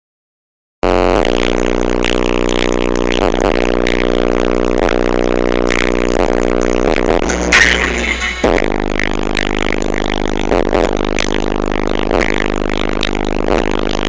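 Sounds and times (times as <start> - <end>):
loud music with deep bass: 1.2 - 14.0.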